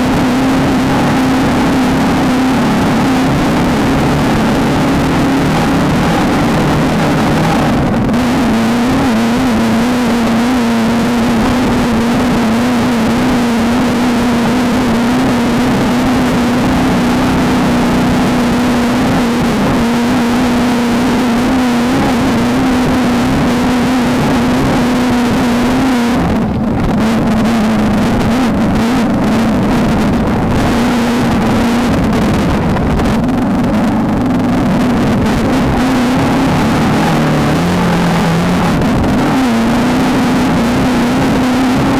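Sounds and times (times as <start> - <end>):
race car engine running hard: 0.0 - 41.9.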